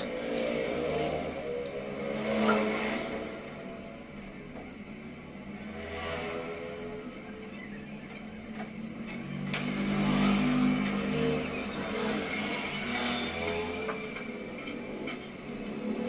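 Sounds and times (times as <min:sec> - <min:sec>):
motorcycle and scooter engines: 0:00.0 - 0:16.0.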